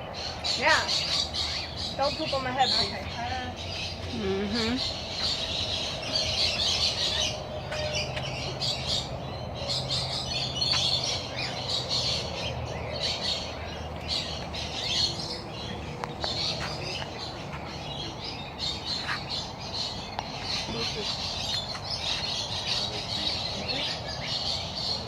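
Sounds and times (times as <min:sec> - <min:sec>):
flock of birds squawking: 0:00.0 - 0:25.0.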